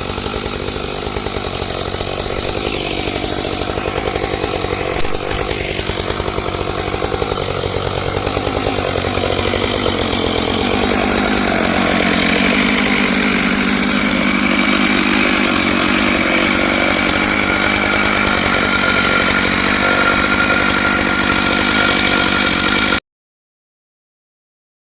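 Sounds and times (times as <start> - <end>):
chainsaw ripping through log: 0.0 - 23.0.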